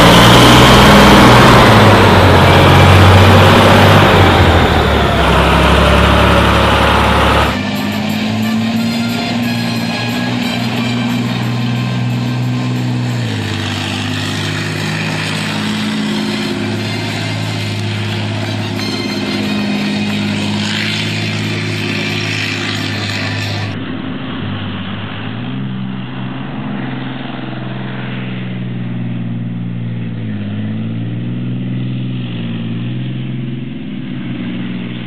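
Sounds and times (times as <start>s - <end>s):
tank diesel engine under load: 0.0s - 35.0s.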